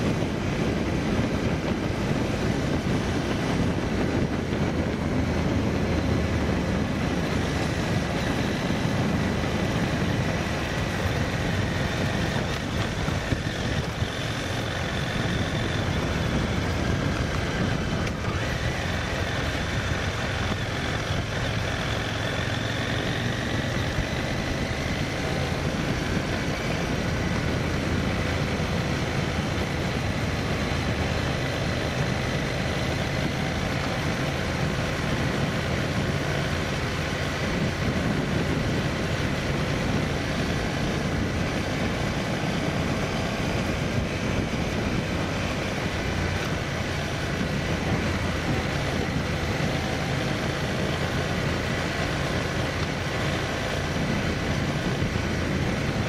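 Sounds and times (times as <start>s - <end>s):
vehicle driving on road: 0.0s - 56.0s.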